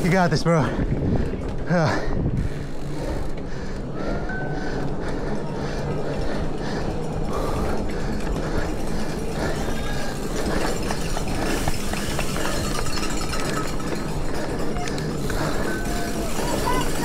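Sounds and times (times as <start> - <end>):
wind and road noise: 0.0 - 17.0
bicycle freewheel ticking: 2.4 - 17.0.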